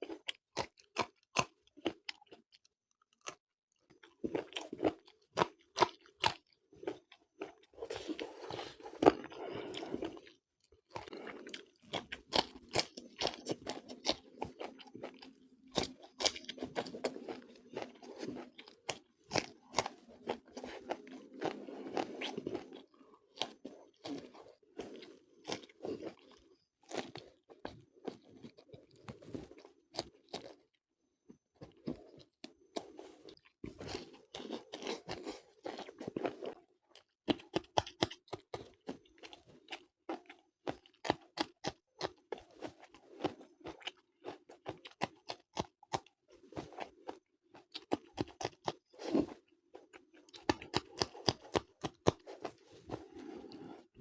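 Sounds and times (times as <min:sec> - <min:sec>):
crisp chewing crunches: 0:00.0 - 0:30.8, 0:31.6 - 0:54.0.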